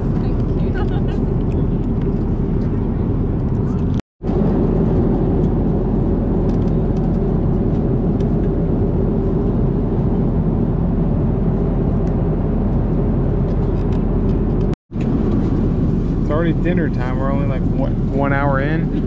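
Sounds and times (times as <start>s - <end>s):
jet airliner cabin noise: 0.0s - 19.0s.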